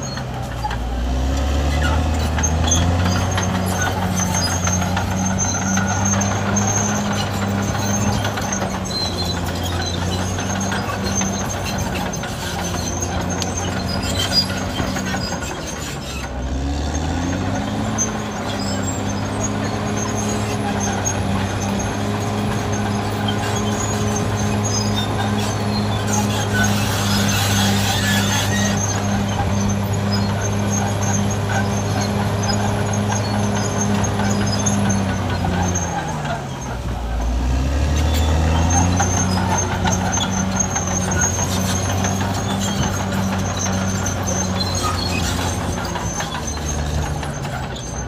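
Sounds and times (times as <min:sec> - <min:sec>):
bulldozer diesel engine running: 0:00.0 - 0:48.0.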